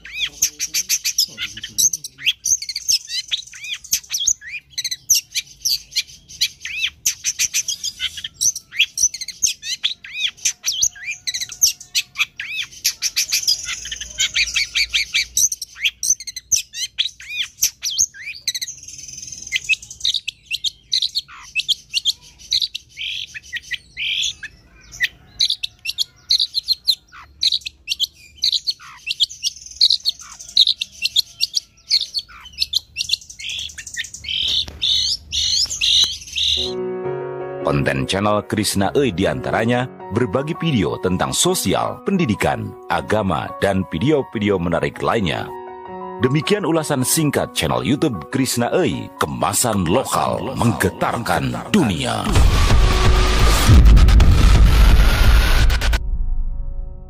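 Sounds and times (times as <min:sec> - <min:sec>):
bird singing chirps and trills: 0:00.0 - 0:36.8, 0:38.0 - 0:52.3.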